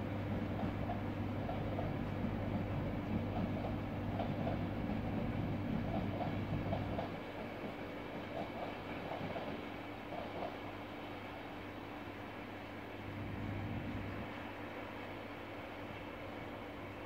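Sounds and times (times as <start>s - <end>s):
rail noise: 0.0s - 17.0s
train humming: 0.0s - 17.0s.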